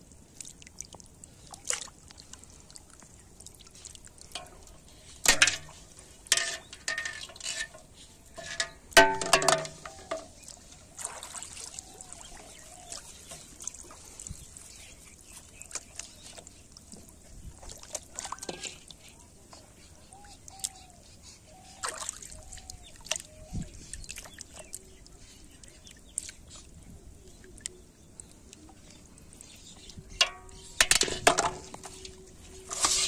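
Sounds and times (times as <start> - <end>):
small splashes and drips: 0.0 - 19.1, 21.6 - 33.0
pond water splashing and trickling: 0.0 - 33.0.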